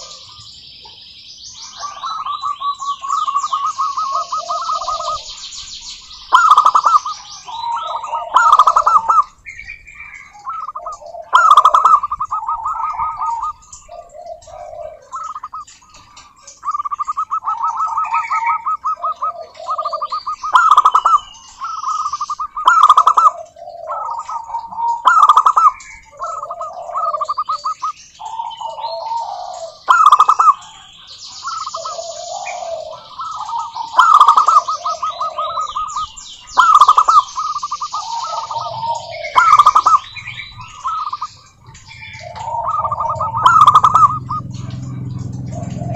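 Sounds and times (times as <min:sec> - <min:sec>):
doves cooing: 0:00.0 - 0:00.9, 0:01.6 - 0:45.9
high bird chirps and trills: 0:00.0 - 0:45.9.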